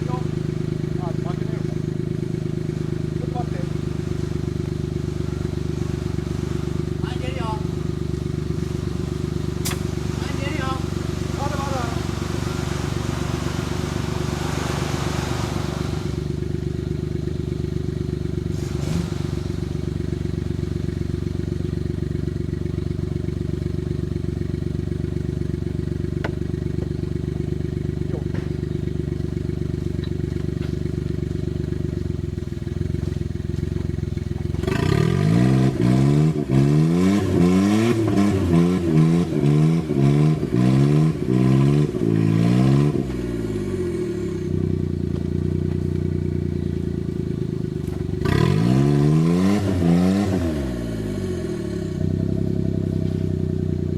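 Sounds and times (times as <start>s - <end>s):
small car engine revving: 0.0s - 53.9s.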